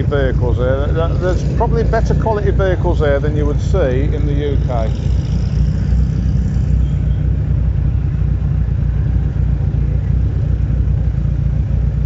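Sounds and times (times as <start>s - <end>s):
vans driving slowly past: 0.0s - 12.0s.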